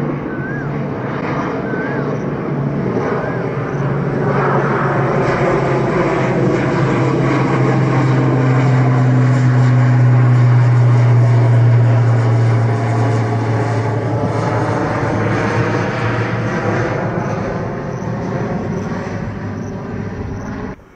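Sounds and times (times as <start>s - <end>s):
turboprop airliner droning overhead: 0.0s - 20.9s.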